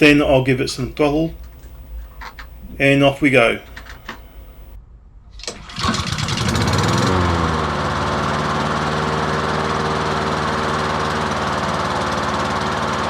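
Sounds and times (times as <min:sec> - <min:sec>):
lawn mower engine pull-started: 0:00.0 - 0:04.7, 0:05.4 - 0:13.0.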